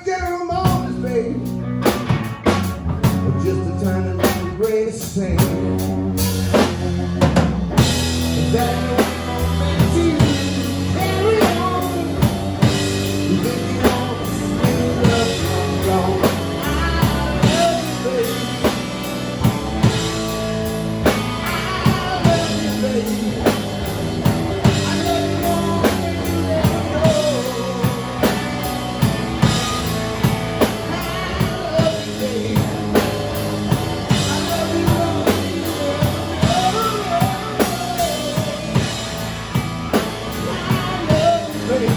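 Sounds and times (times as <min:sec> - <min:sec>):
bass guitar: 0:00.0 - 0:41.9
guitar: 0:00.0 - 0:41.9
drum kit beat: 0:00.3 - 0:41.9.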